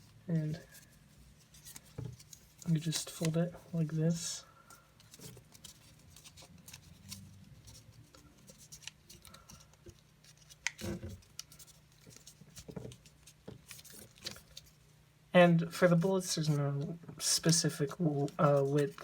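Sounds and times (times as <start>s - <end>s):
paper rustling and crinkling: 0.0s - 14.8s, 17.3s - 19.0s.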